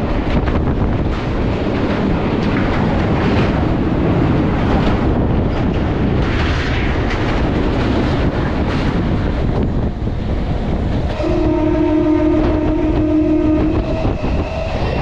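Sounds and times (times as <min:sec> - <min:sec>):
train rumbling over bridge: 0:00.0 - 0:15.0
wind on microphone: 0:00.0 - 0:15.0.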